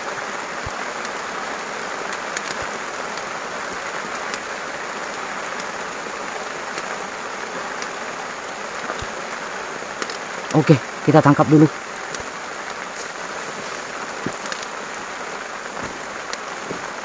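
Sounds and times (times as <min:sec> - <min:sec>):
raindrops ticking close by: 0:00.0 - 0:17.0
steady rain falling: 0:00.0 - 0:17.0.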